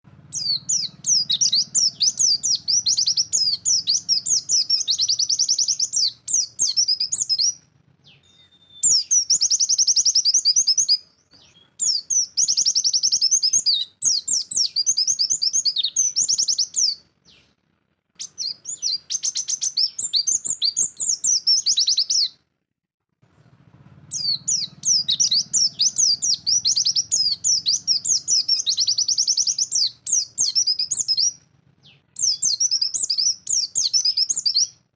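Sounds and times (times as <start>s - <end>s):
bird chirping rapidly: 0.2s - 17.5s, 18.2s - 22.4s, 24.1s - 34.9s.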